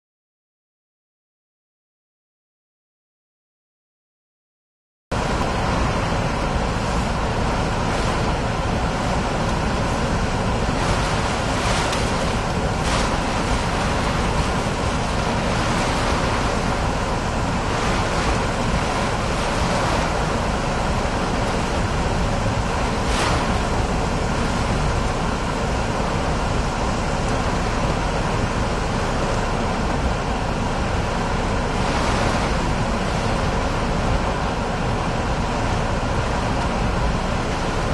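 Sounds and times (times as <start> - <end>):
strong wind on a car: 5.1 - 37.9
tyres on wet road: 5.1 - 37.9
driving rain on a car: 5.2 - 37.9.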